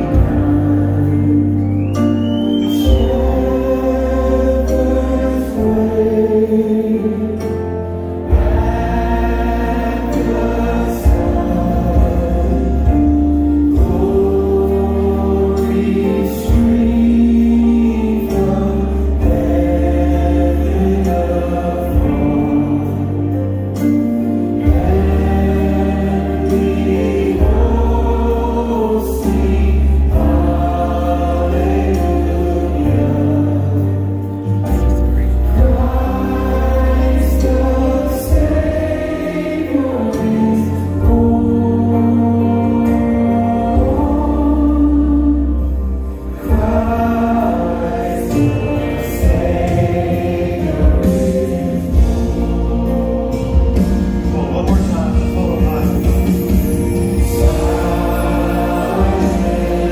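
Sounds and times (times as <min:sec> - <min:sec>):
voices singing worship song: 0:00.0 - 0:59.9.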